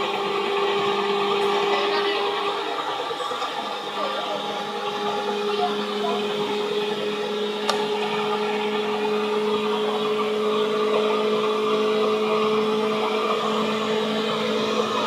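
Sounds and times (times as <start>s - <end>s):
two-note electrical hum: 0.0s - 15.0s
wheels rumbling on rail: 0.0s - 15.0s.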